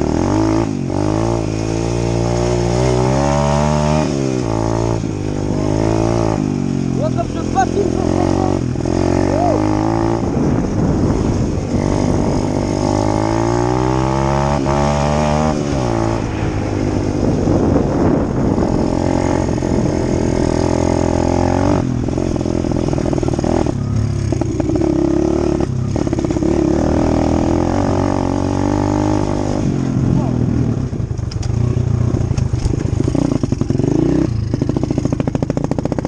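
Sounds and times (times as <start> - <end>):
dirt bike engine accelerating: 0.0 - 36.0.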